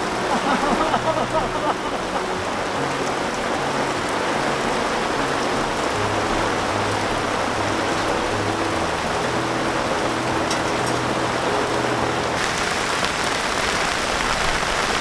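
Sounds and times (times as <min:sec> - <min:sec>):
heavy rain beating on a tent: 0:00.0 - 0:15.0.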